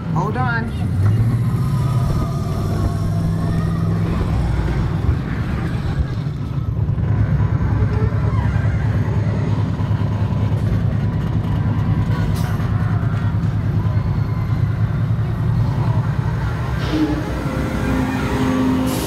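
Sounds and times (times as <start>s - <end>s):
ride vehicle rumbling on track: 0.0s - 19.0s.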